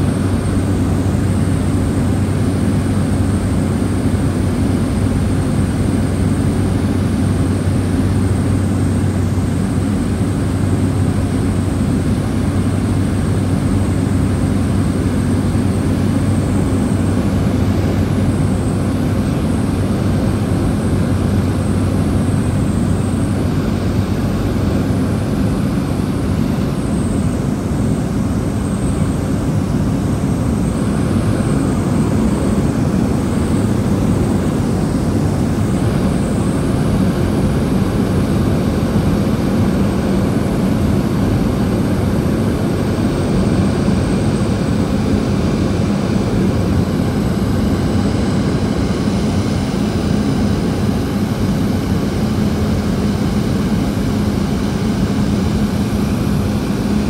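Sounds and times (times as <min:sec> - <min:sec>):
turboprop engine drone: 0:00.0 - 0:57.0.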